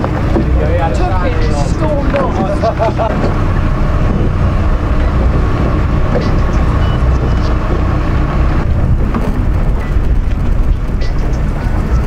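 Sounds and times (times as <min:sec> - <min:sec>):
boat engine rumbling: 0:00.0 - 0:12.0
wind buffeting microphone: 0:00.0 - 0:12.0.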